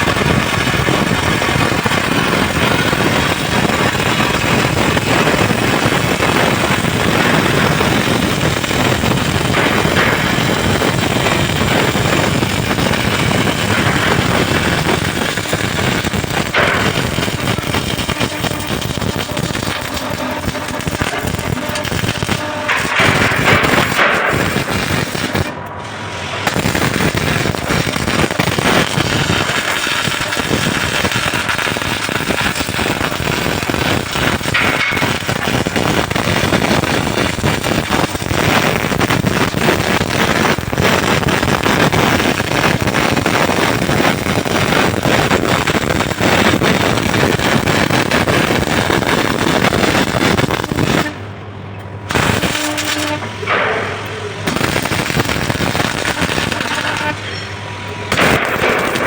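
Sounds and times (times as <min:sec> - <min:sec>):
welding arc crackling: 0:00.0 - 0:51.4, 0:52.0 - 0:59.0.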